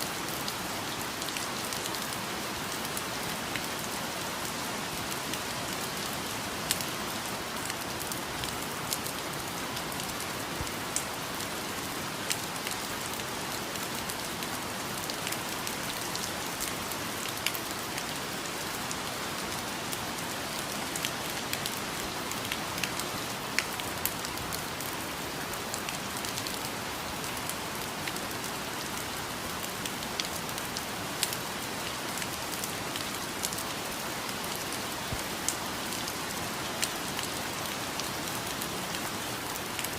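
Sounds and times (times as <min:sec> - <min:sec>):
raindrops pattering on leaves: 0:00.0 - 0:39.9
steady rain hiss: 0:00.0 - 0:39.9.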